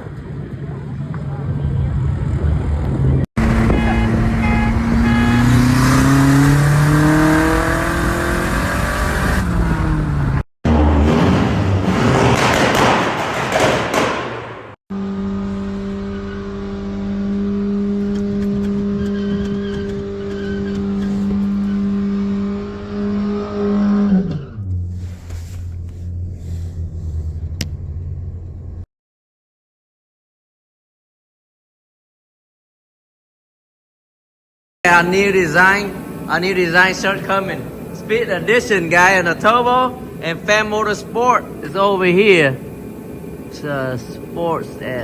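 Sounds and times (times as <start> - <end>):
race car engine: 0.0 - 28.9, 34.9 - 45.0.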